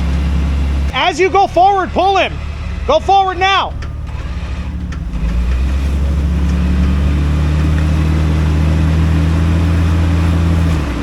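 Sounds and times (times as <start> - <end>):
off-road vehicle engine droning: 0.0 - 11.0.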